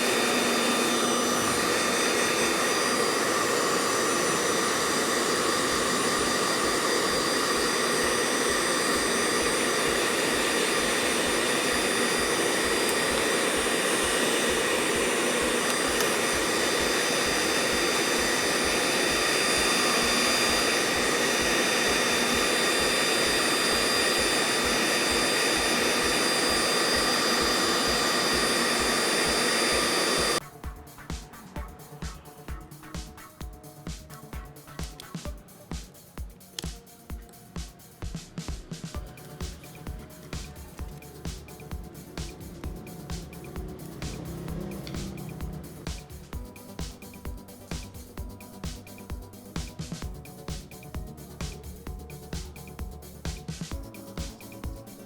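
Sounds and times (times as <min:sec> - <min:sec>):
blower motor rushing and whining: 0:00.0 - 0:30.6, 0:36.5 - 0:55.0.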